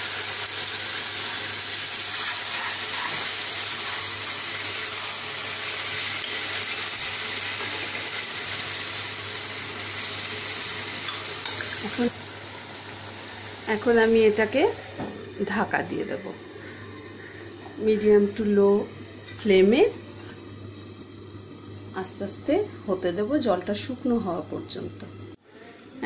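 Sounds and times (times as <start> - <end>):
water sizzling in a hot pan: 0.0 - 26.0.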